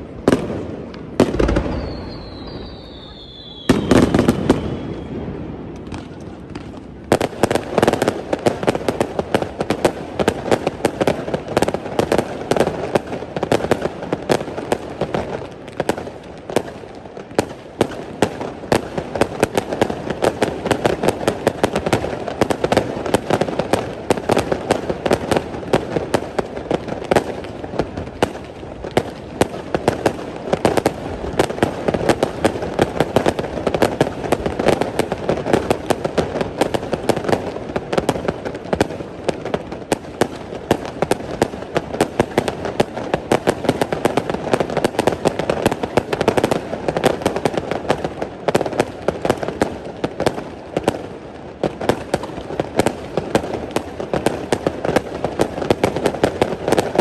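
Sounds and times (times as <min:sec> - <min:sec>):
fireworks crackling pops: 0:00.0 - 0:57.0
fireworks exploding: 0:00.0 - 0:57.0.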